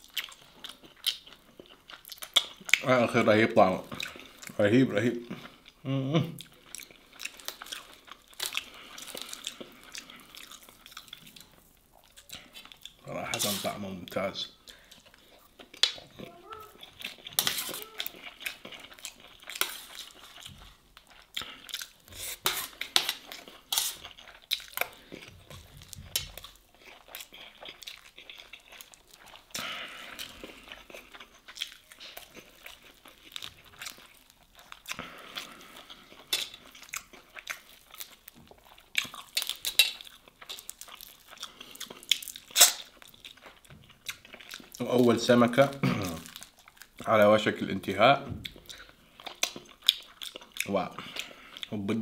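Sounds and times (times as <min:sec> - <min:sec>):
chewing: 0:00.0 - 0:47.2, 0:48.4 - 0:51.9.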